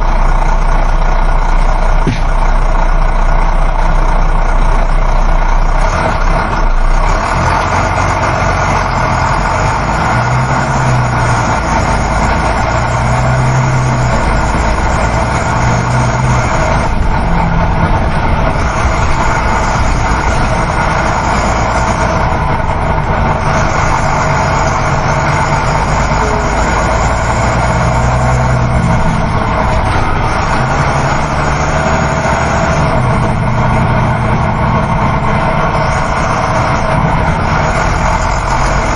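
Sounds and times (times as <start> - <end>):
bus engine hum: 0.0 - 38.9
road noise: 0.0 - 38.9.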